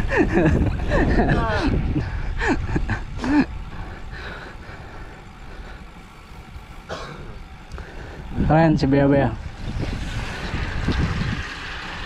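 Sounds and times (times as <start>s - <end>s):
wind and road rumble: 0.0s - 12.0s.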